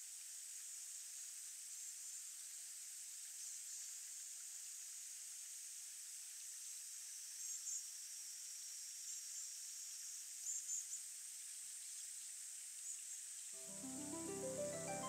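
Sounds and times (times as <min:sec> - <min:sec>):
steady high-pitched hiss: 0:00.0 - 0:15.0.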